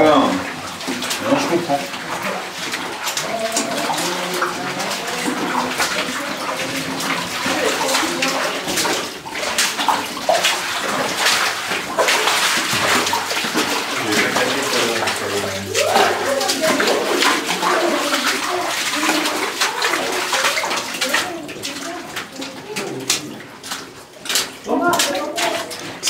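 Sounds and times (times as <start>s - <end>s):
footsteps splashing through water: 0.0s - 26.0s.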